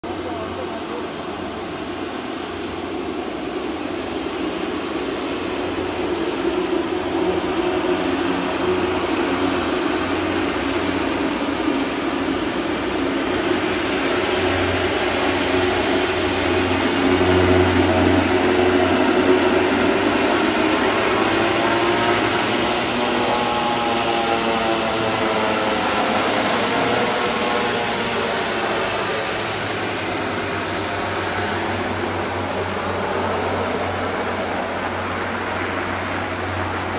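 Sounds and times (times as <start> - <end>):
turboprop engines droning: 0.0 - 36.9.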